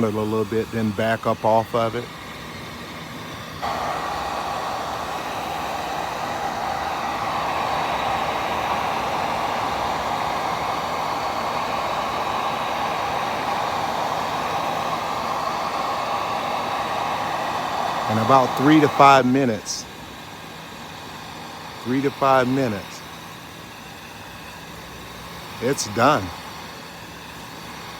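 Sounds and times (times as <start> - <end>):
hair dryer blowing: 0.0 - 27.9.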